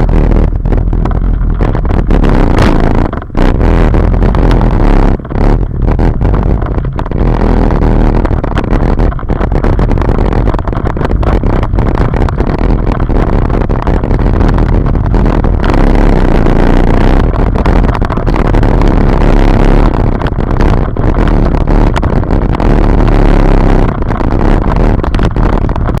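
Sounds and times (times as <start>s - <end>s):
knocks and rattles: 0.0s - 26.0s
utility vehicle engine running: 0.0s - 26.0s.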